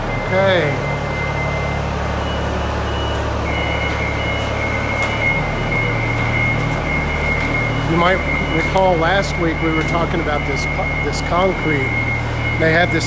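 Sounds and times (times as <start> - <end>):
backup alarm beeping: 0.0 - 13.0
construction machine engine droning: 0.0 - 13.0
steady high whine: 0.0 - 13.0.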